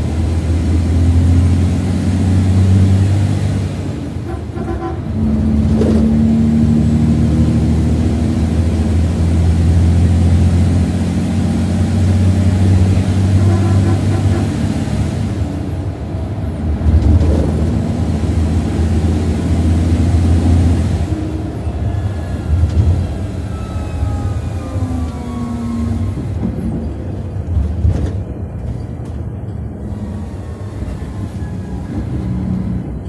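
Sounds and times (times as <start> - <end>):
coach diesel engine droning: 0.0 - 33.0.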